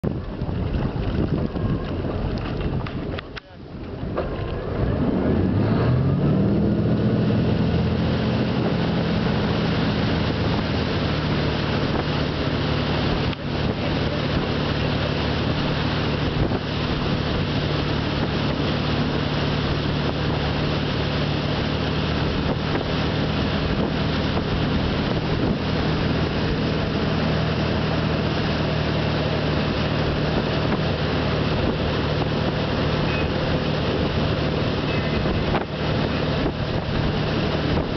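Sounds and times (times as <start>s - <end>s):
boat engine revving: 0.0s - 37.9s.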